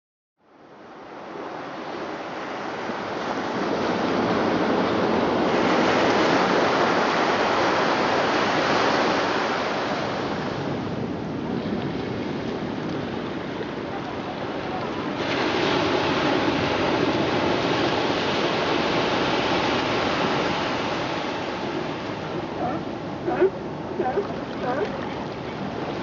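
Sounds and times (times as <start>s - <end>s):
ocean waves rushing: 0.6s - 26.0s.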